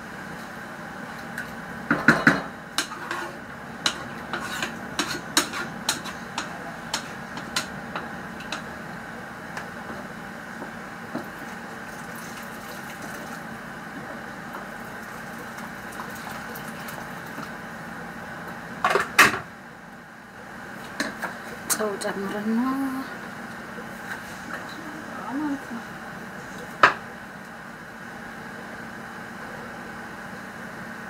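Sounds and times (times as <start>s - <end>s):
background hum: 0.0s - 28.8s.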